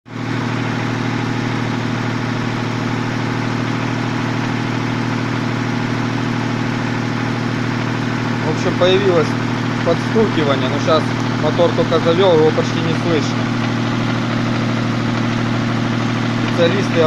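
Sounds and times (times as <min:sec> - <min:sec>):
car engine idling: 0:00.1 - 0:17.0.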